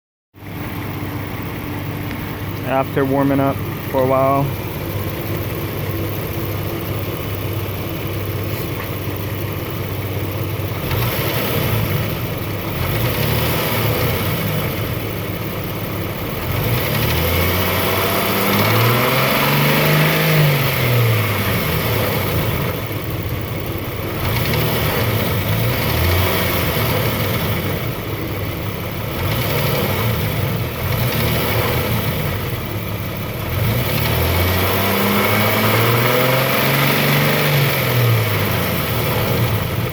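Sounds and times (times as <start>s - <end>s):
car engine idling and revving: 0.4s - 39.9s
engine ticking: 0.4s - 39.9s.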